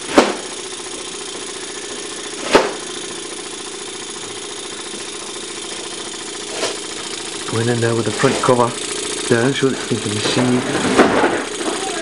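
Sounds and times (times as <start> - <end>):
model steam engine humming: 0.0 - 12.0.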